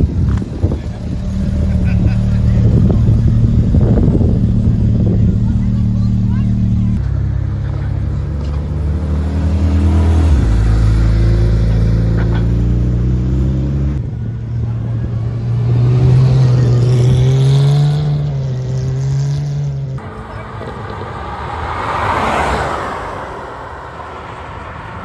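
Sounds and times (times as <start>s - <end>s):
sports car engine accelerating: 0.0s - 22.7s.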